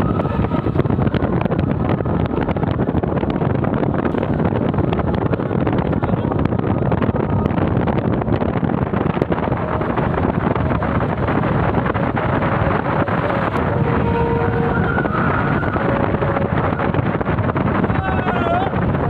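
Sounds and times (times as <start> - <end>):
wind and road noise: 0.0 - 19.0
wind buffeting microphone: 0.0 - 19.0.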